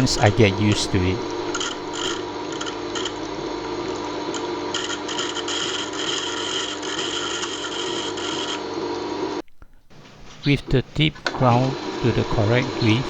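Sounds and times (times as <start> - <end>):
grinding wheel rasping on steel: 0.0 - 8.9, 11.2 - 13.0
sharpening machine motor hum: 0.0 - 9.4, 11.2 - 13.0.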